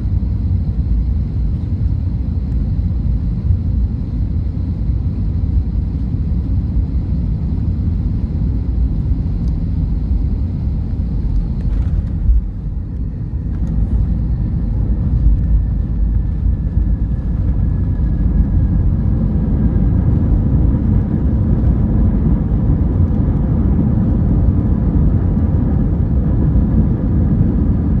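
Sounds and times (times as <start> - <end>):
faint whining tones: 0.0 - 23.3
jet airliner engines rumbling: 0.0 - 28.0.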